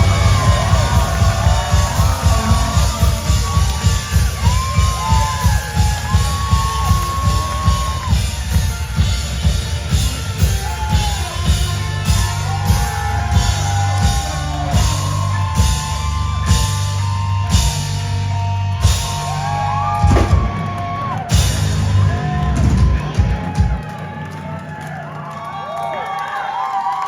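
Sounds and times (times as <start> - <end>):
distorted guitars: 0.0 - 23.9
drum kit: 0.0 - 25.0.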